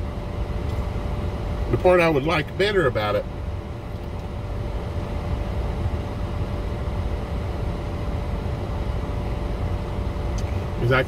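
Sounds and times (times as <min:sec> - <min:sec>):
air-conditioning fan: 0:00.0 - 0:11.0
car engine idling: 0:00.0 - 0:11.0
faint steady whine: 0:00.0 - 0:11.0.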